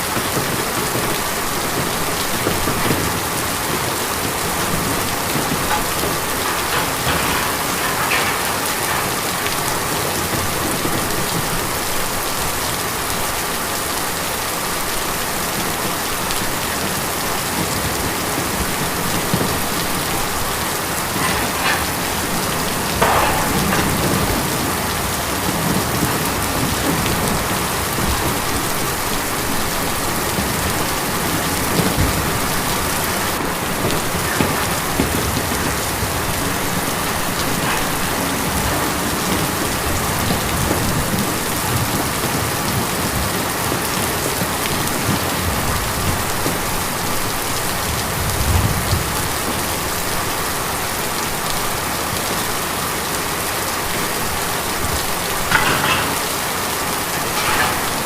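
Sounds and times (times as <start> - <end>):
rain drumming on a tin roof: 0.0 - 58.0.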